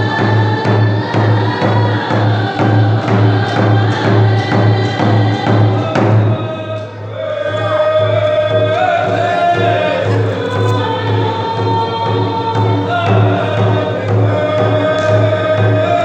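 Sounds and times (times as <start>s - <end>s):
group singing: 0.0s - 16.0s
steady drum beat: 0.0s - 16.0s.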